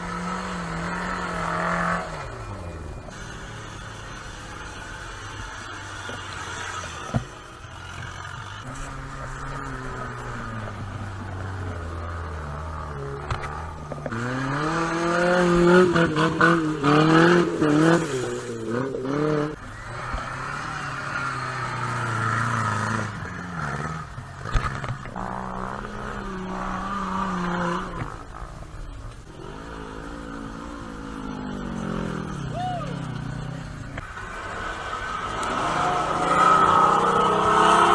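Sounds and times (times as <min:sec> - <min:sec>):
off-road vehicle engine revving: 0:00.0 - 0:37.9.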